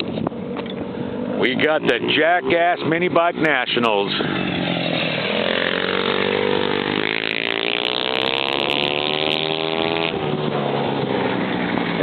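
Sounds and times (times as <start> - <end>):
minibike engine revving: 1.2 - 3.5, 4.2 - 12.0.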